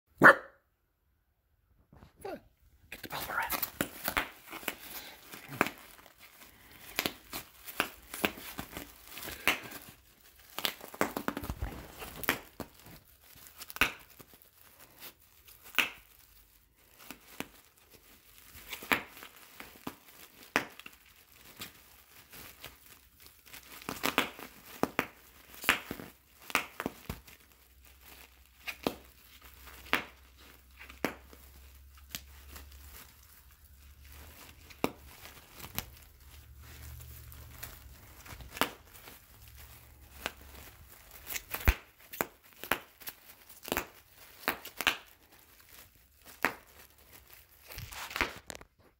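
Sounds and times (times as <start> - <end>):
bubble wrap popping: 1.9 - 48.9
plastic crinkling: 2.0 - 48.9.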